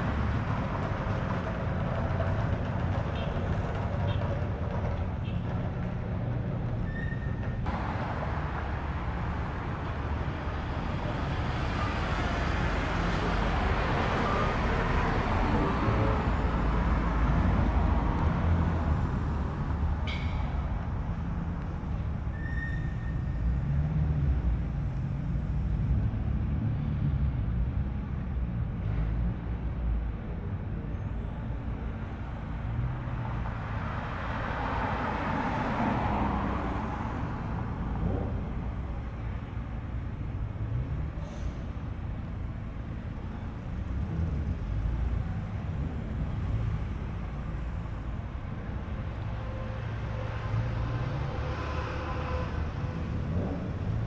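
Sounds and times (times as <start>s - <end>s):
car engines rumbling: 0.0s - 54.0s.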